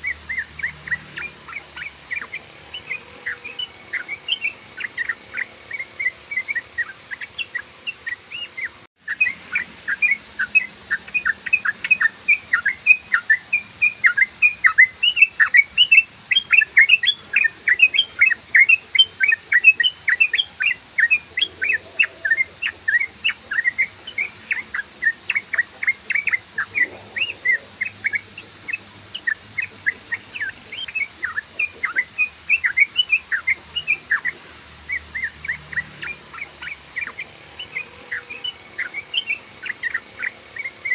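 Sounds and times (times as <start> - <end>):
bulbul rapid chirping song: 0.0 - 40.9.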